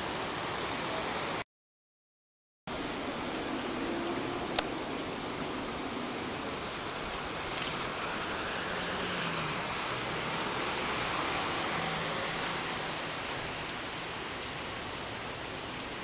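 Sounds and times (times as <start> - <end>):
heavy rain on pavement: 0.0 - 1.4, 2.7 - 16.0.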